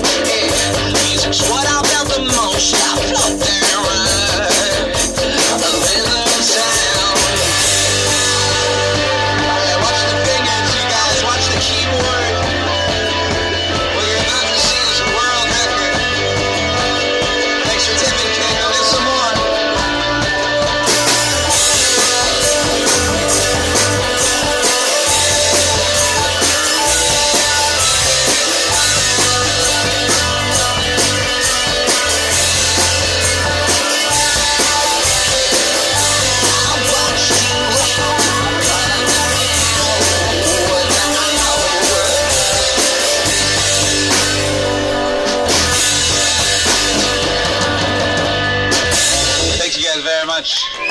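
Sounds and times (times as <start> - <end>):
held bass notes: 0.0 - 49.7
drum kit and cymbals beating: 0.0 - 50.9
guitar: 0.0 - 50.9.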